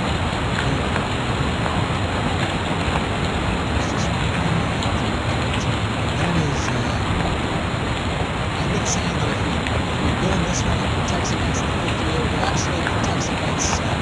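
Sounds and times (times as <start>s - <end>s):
static hiss: 0.0s - 14.0s.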